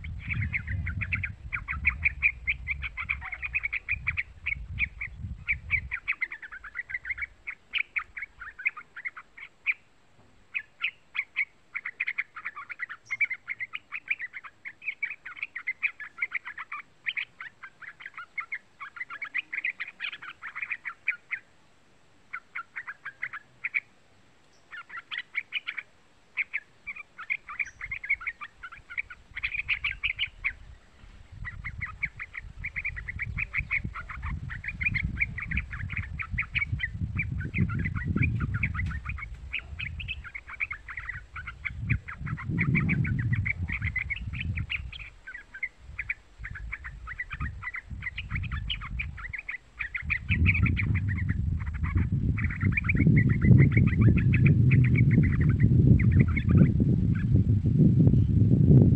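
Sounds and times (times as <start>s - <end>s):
bird chattering song: 0.0s - 21.6s, 22.2s - 58.5s.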